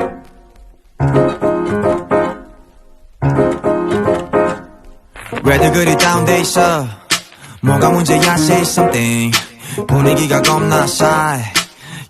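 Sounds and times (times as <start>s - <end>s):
piano chords: 0.0s - 11.9s.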